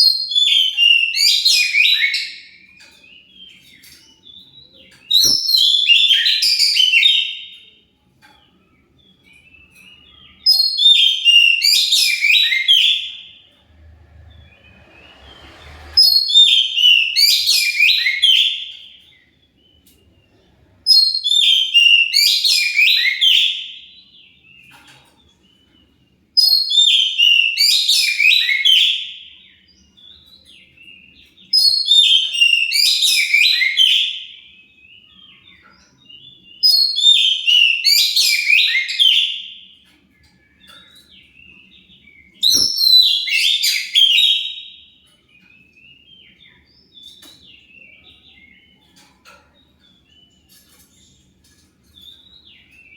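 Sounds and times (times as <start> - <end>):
bird whistling song: 0.0 - 7.8, 8.4 - 49.1.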